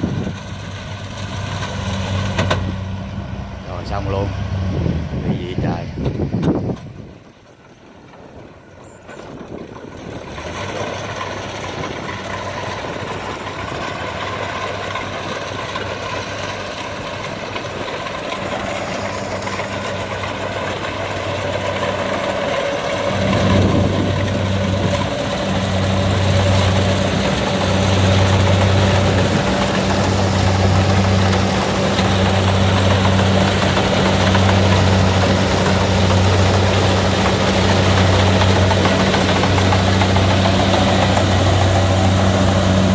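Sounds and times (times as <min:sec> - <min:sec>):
combine harvester diesel engine: 0:00.0 - 0:42.9.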